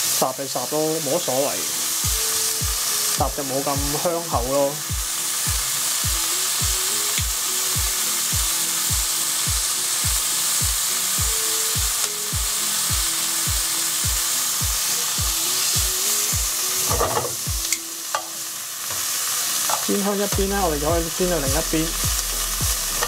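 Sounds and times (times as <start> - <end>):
vegetables sizzling in butter: 0.0 - 23.0
background music with beat: 1.7 - 18.4, 19.5 - 23.0.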